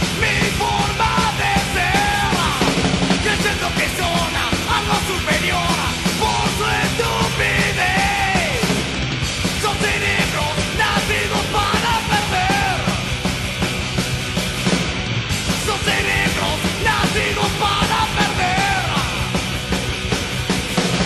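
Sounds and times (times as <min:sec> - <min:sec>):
punk rock band playing: 0:00.0 - 0:21.0.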